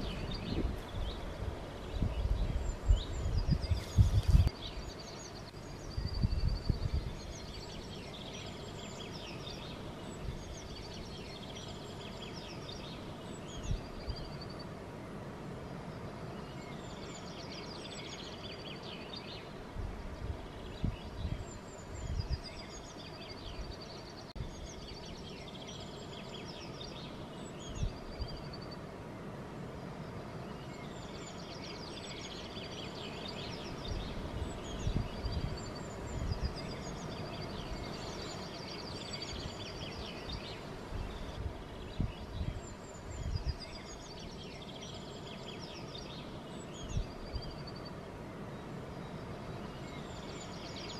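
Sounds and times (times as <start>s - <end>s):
wind gusts on microphone: 0.0s - 18.0s, 18.8s - 25.9s, 26.5s - 50.9s
songbirds chirping and trilling: 0.0s - 50.9s.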